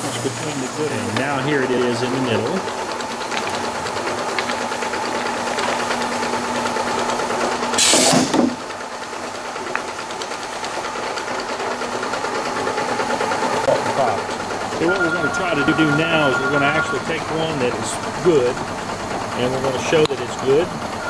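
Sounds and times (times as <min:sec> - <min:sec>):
conveyor humming and ticking: 0:00.0 - 0:07.8, 0:08.6 - 0:21.0.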